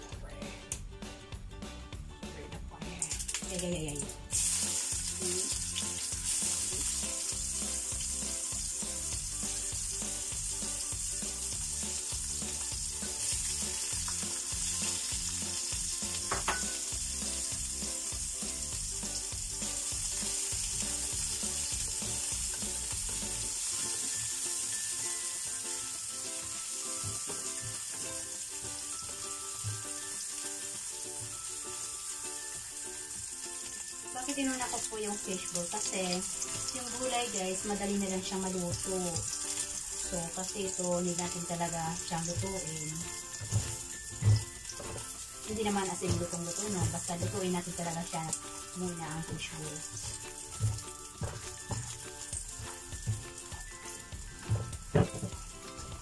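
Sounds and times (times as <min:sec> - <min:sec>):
food sizzling in hot oil: 0:03.0 - 0:56.0.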